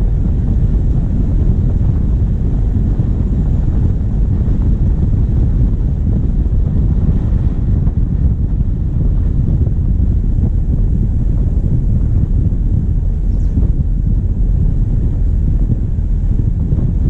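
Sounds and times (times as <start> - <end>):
diesel vehicle engine rumble: 0.0 - 17.0
wind buffeting microphone: 0.0 - 17.0.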